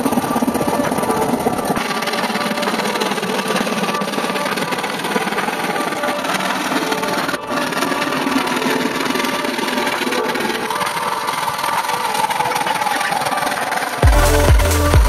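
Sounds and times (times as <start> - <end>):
electronic dance music: 0.0 - 15.0
hand saw cutting wood: 0.0 - 15.0.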